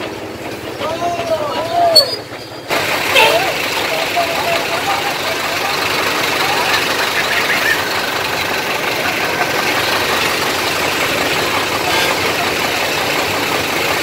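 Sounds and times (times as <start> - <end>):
heavy truck engine idling: 0.0 - 14.0.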